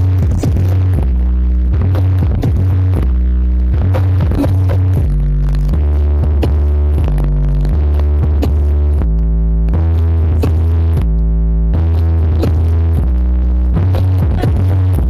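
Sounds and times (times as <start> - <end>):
deep bass notes: 0.0 - 15.0
loud electronic dance music: 0.0 - 15.0.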